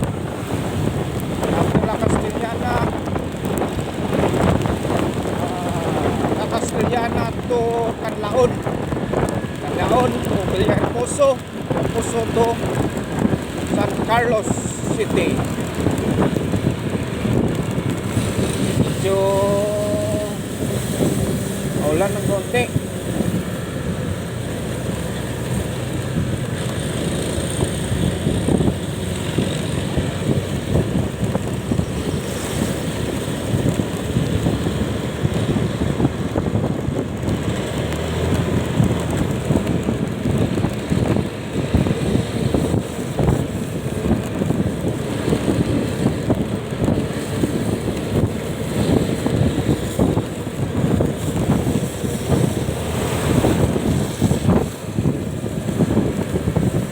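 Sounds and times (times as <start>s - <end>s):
vehicle road noise: 0.0s - 56.9s
wind buffeting microphone: 0.0s - 56.9s.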